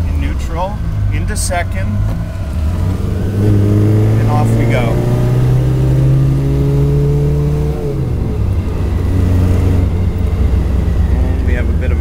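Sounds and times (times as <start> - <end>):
car engine pulling in gear: 0.0 - 12.0.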